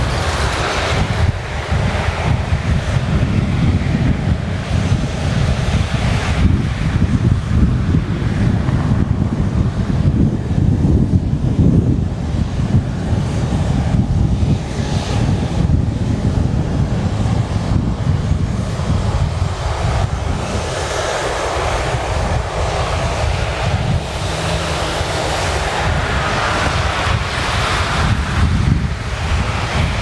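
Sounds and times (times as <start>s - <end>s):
jet engine noise: 0.0s - 30.0s
wind buffeting microphone: 0.0s - 30.0s.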